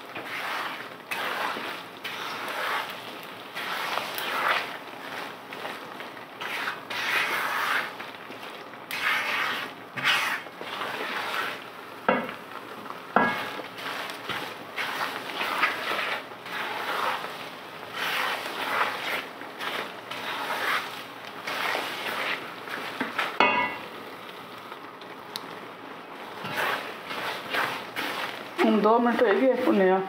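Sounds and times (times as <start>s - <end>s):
wooden spoon scraping a wok: 0.0s - 23.8s, 26.1s - 30.0s.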